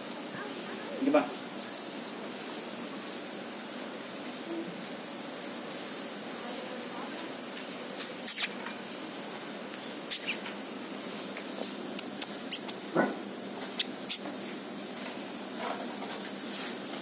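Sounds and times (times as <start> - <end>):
insect chirping: 1.5 - 16.9.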